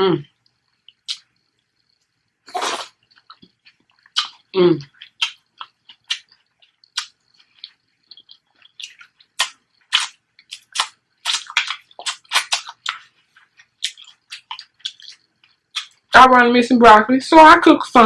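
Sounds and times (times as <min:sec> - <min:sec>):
wet chewing and mouth smacks: 0:00.4 - 0:16.1.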